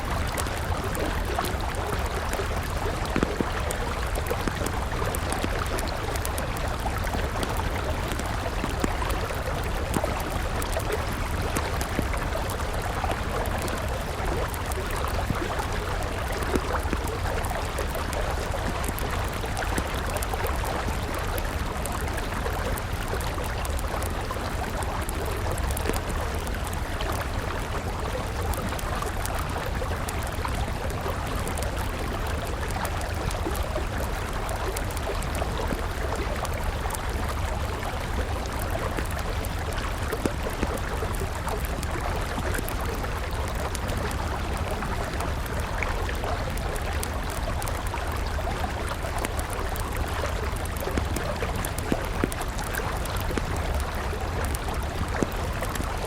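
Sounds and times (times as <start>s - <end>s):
campfire crackling: 0.0s - 56.0s
river flowing: 0.0s - 56.0s.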